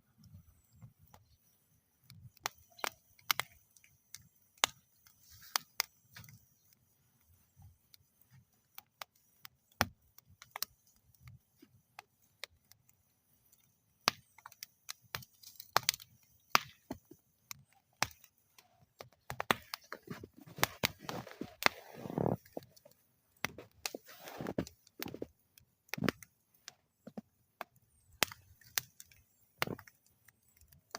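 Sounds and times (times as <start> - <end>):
wood fire crackling: 0.1 - 30.9
hissing flame: 0.2 - 30.9
sharp pops and snaps: 0.2 - 30.9.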